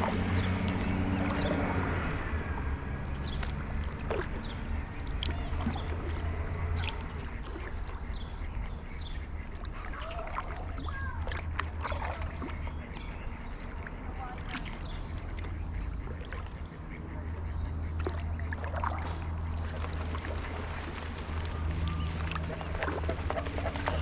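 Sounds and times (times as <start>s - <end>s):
birds chirping: 0.0s - 24.0s
low rumble: 0.0s - 24.0s.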